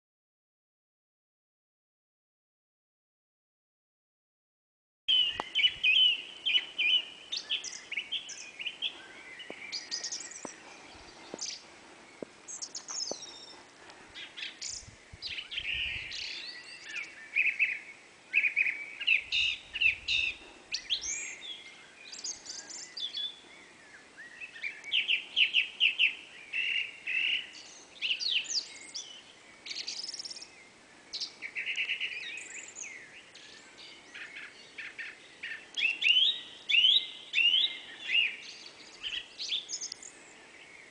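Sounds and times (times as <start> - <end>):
songbirds singing: 5.1 - 40.9.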